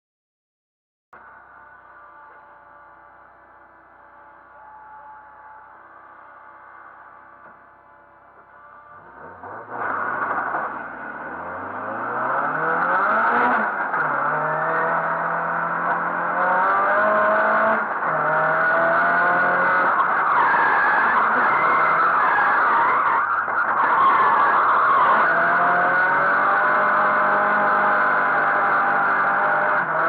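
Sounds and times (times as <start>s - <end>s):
car engine revving: 1.2s - 30.0s.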